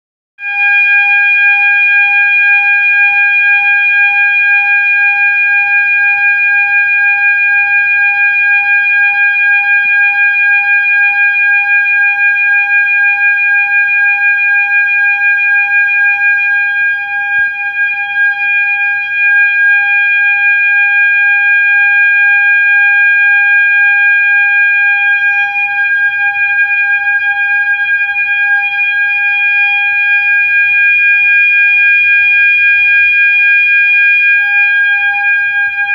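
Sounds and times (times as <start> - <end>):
fire alarm horn steady tone: 0.4 - 35.9.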